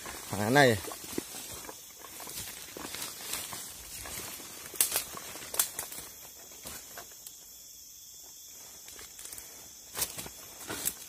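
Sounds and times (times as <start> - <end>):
dry leaves rustling: 0.0 - 7.3, 8.6 - 11.0
footsteps in undergrowth: 0.0 - 11.0.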